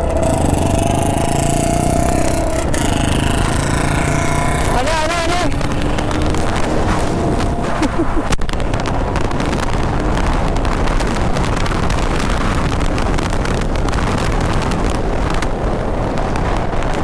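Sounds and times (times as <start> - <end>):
motorcycle engine: 0.0 - 16.6
wind buffeting microphone: 0.0 - 17.0.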